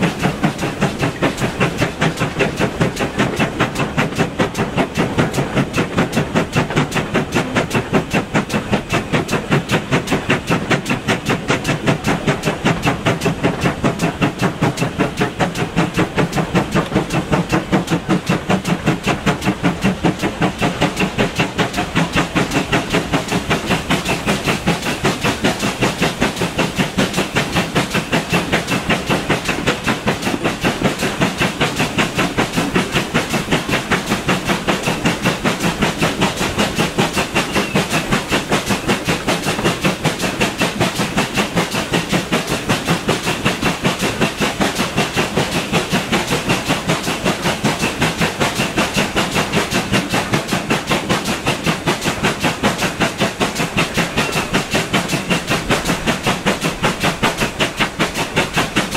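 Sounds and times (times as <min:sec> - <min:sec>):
carriage wheels clattering on rails: 0:00.0 - 0:58.9
steam engine exhaust beats: 0:00.0 - 0:58.9.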